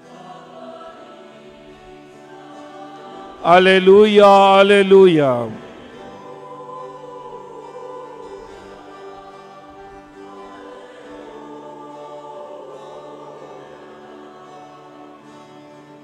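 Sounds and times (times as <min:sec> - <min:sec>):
choir-like voices: 0:00.0 - 0:16.0.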